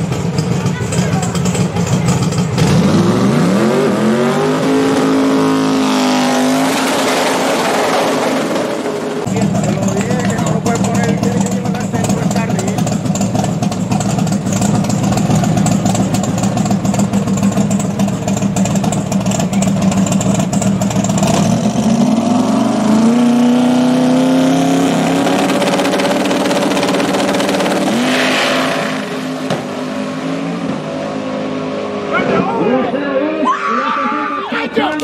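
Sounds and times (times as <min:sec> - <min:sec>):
drag car engine: 0:00.0 - 0:35.0.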